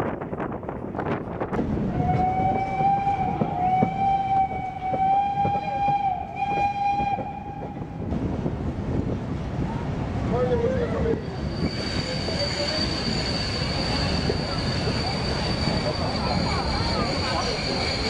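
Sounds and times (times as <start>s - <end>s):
moving train rumble and clicks: 0.0s - 18.0s.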